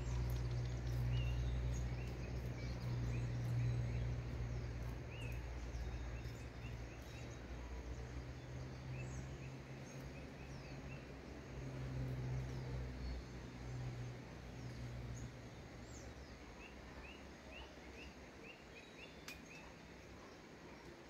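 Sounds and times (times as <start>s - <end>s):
low background rumble: 0.0s - 18.5s
small birds chirping: 0.0s - 21.0s.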